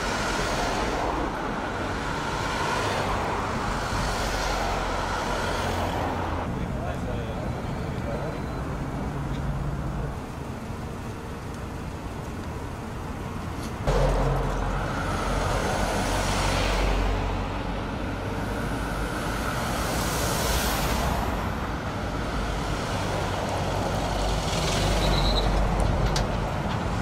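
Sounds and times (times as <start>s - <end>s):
vehicles passing by: 0.0s - 27.0s.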